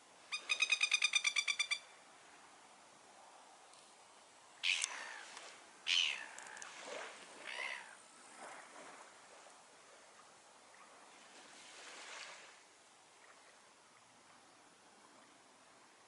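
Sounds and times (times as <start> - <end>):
gentle surf on beach: 0.0 - 1.0, 1.6 - 16.0.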